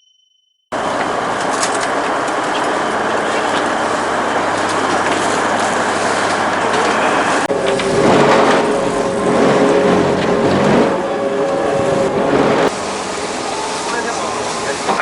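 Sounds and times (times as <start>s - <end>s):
boat engine: 0.7s - 15.0s
rushing water: 0.8s - 15.0s
wind: 0.8s - 15.0s.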